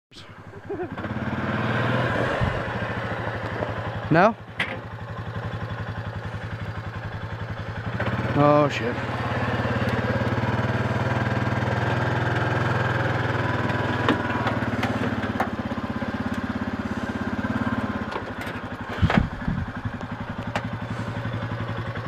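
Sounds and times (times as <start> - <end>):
atv engine running: 0.4 - 22.0.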